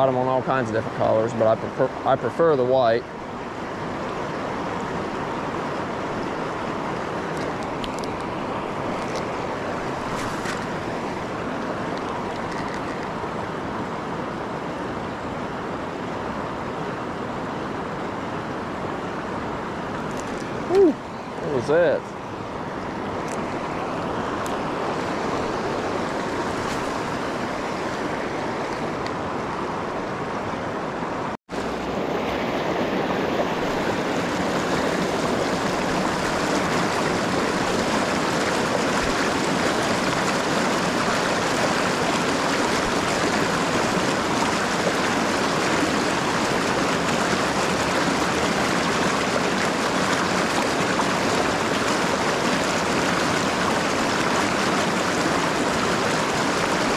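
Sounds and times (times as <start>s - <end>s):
river rapids rushing: 0.0s - 56.9s.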